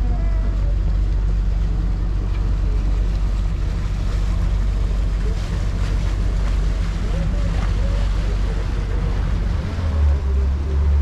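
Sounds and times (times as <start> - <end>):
boat diesel engine droning: 0.0 - 11.0
water noise: 0.0 - 11.0
wind: 0.0 - 11.0.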